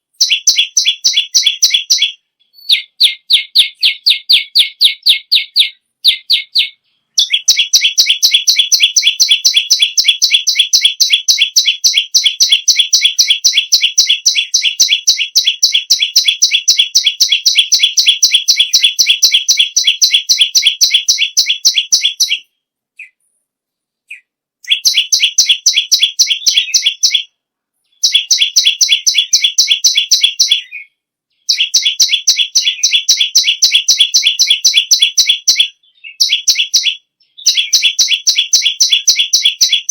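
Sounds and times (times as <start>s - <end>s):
bird singing rapid high chirps: 0.0s - 23.2s, 24.1s - 27.3s, 27.9s - 39.9s.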